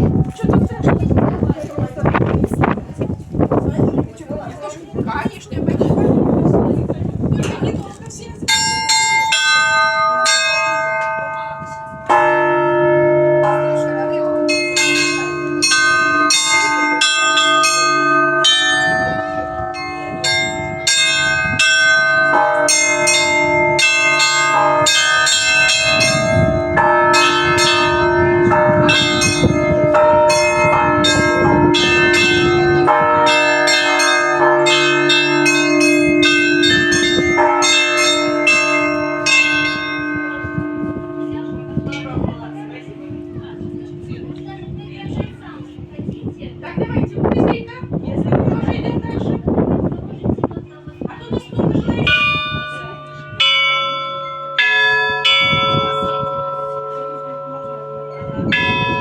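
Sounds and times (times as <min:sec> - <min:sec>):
deep heavy bell: 0:00.0 - 0:59.0
middle bells ringing: 0:03.8 - 0:59.0
small high-pitched bells: 0:08.4 - 0:59.0.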